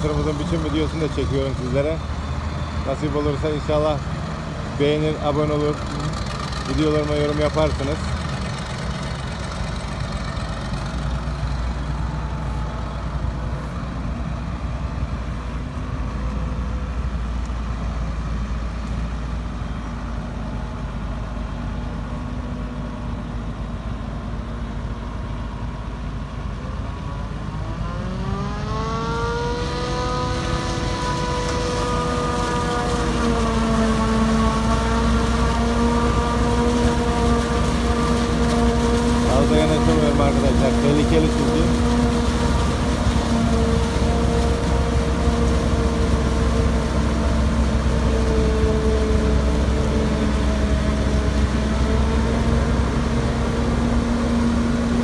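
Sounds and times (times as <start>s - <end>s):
engine high steady whine: 0.0s - 55.0s
forage harvester running: 0.0s - 55.0s
truck diesel engine: 0.0s - 55.0s.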